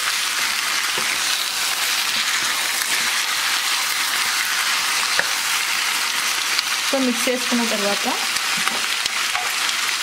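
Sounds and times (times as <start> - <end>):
chicken and onions sizzling in oil: 0.0 - 10.0.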